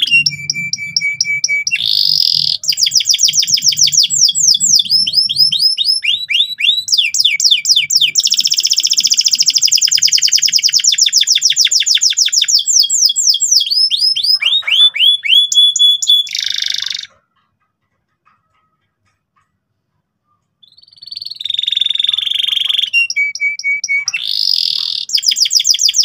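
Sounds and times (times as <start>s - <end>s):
canary singing: 0.0s - 26.0s.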